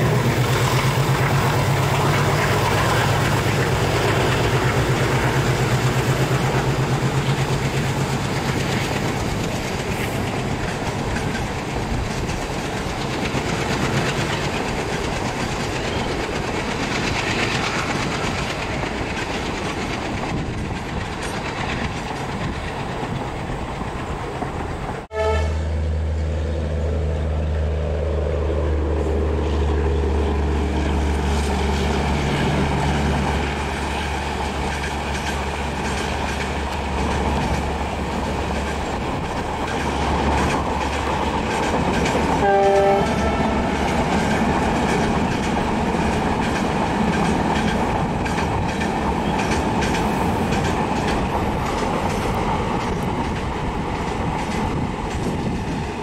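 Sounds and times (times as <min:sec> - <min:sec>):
diesel locomotive engine drone: 0:00.0 - 0:56.0
train rumbling with wheel clatter: 0:00.0 - 0:56.0.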